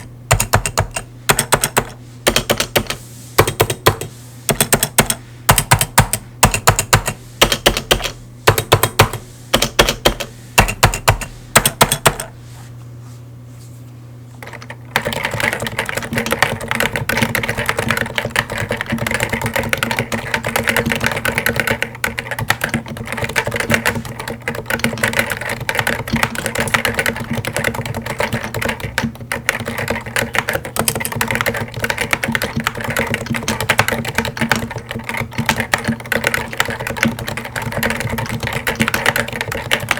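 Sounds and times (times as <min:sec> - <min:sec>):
keyboard typing: 0:00.0 - 0:12.3, 0:14.4 - 0:39.9.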